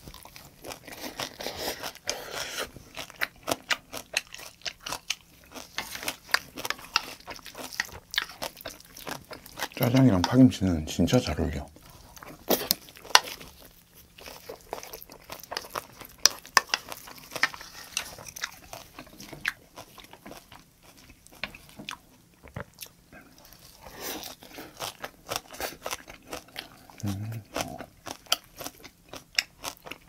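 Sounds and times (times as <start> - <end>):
crisp chewing crunches: 0.0 - 10.6, 11.2 - 30.0.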